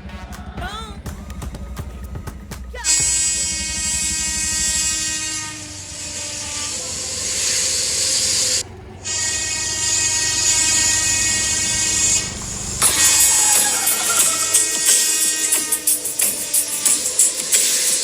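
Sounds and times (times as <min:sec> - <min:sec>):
train whining tones: 0:00.0 - 0:18.0
rushing hiss: 0:02.9 - 0:18.0.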